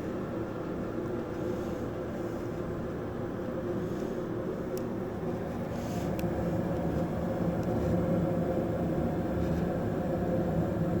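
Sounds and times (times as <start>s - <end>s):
electric kettle heating water: 0.0s - 11.0s.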